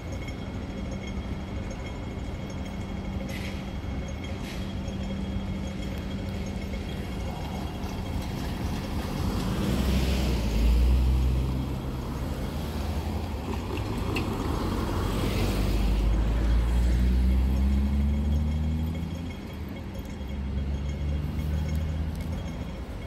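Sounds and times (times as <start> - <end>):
light rail train rumbling: 0.0 - 23.0.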